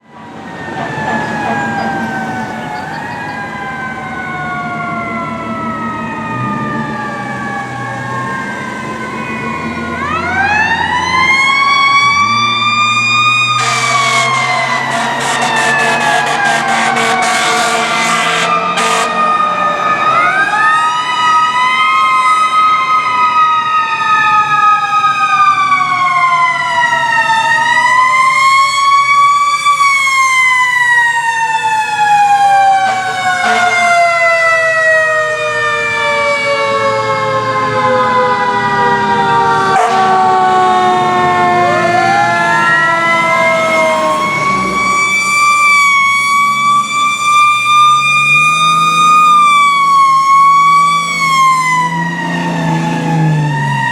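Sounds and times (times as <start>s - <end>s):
fire engine sirens wailing: 0.0s - 53.9s.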